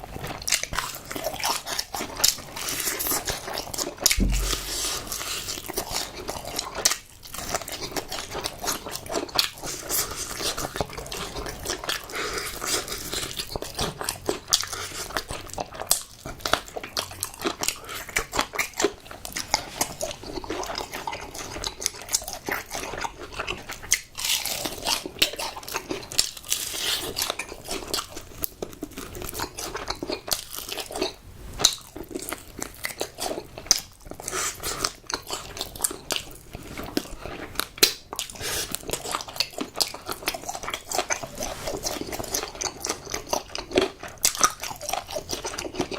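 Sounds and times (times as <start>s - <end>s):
crunchy chewing of fried chicken: 0.0s - 45.9s.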